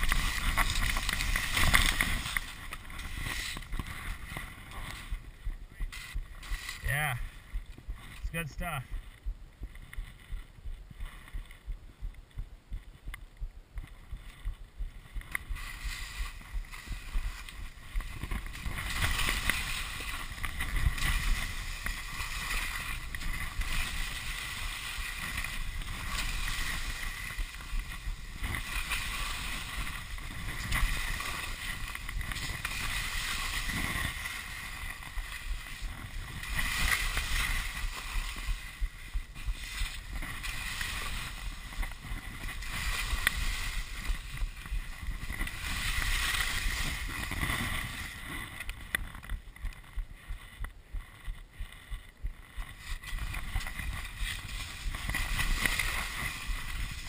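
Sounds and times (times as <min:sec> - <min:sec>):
skis scraping over snow: 0:00.0 - 0:11.6, 0:13.8 - 0:57.0
wind rumble on microphone: 0:00.0 - 0:57.0.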